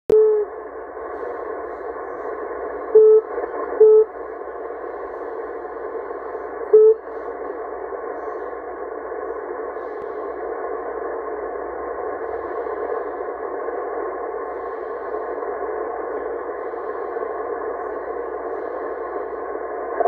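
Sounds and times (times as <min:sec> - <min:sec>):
radio static hiss: 0:00.1 - 0:20.0.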